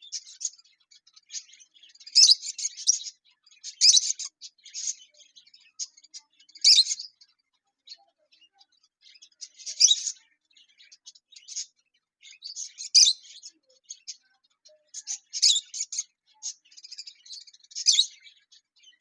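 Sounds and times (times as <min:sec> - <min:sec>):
lovebirds chirping: 0:00.0 - 0:19.0.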